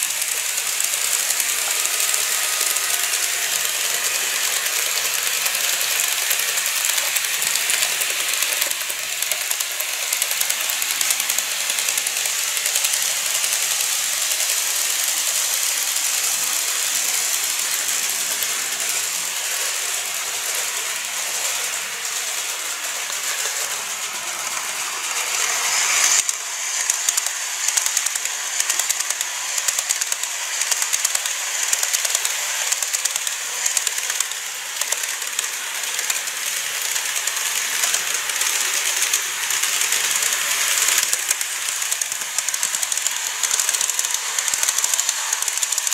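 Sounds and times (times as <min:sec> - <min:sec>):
model train whirring: 0:00.0 - 0:45.9
train wheels clicking on rails: 0:00.0 - 0:45.9.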